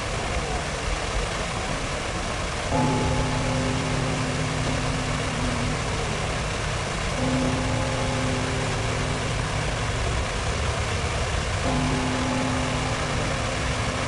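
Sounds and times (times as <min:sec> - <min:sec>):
fountain water rushing: 0:00.0 - 0:14.0
traffic: 0:00.0 - 0:14.0
low steady hum: 0:02.5 - 0:14.0.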